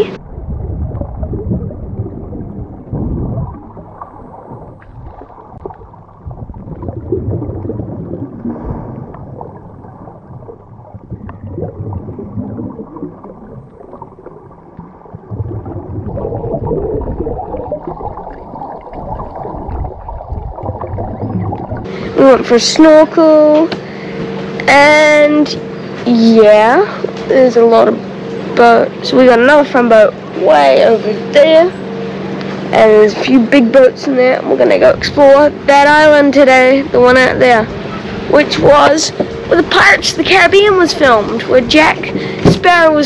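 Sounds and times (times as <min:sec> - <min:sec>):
low steady hum: 0:00.0 - 0:43.0
water sloshing underwater: 0:00.0 - 0:43.0.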